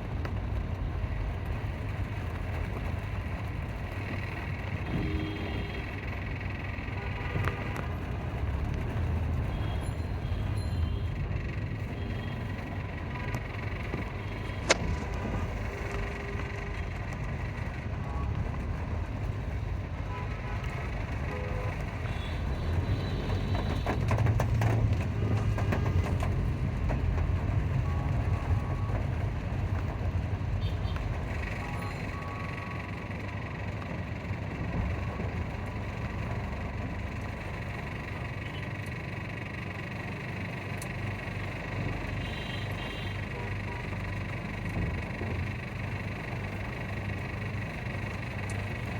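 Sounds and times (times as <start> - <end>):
passing traffic rumble: 0.0 - 48.9
rain: 0.0 - 48.9.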